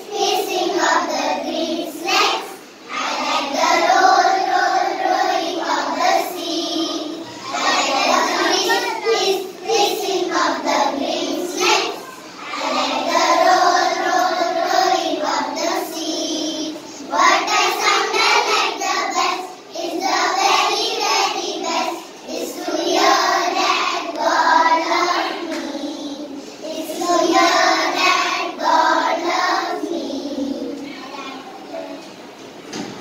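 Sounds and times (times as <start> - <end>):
children singing in unison: 0.0 - 30.9.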